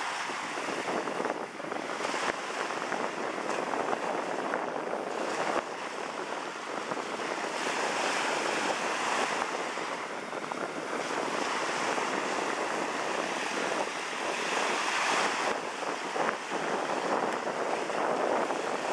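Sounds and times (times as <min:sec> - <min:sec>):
small waves breaking on sand: 0:00.0 - 0:18.9.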